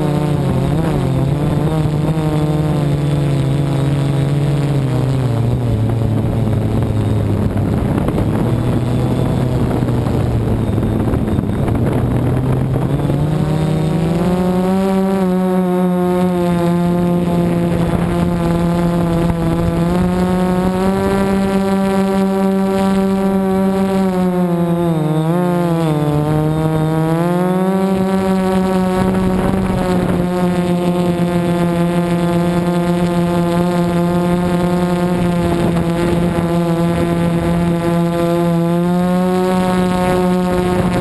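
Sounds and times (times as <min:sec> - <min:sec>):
drone propellers humming: 0:00.0 - 0:41.0.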